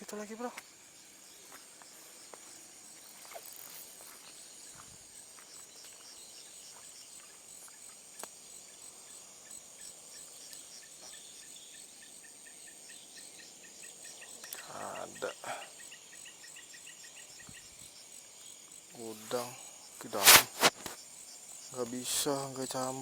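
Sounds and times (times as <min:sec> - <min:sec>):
insects trilling: 0:00.0 - 0:23.0
lower insect chirp: 0:00.0 - 0:23.0.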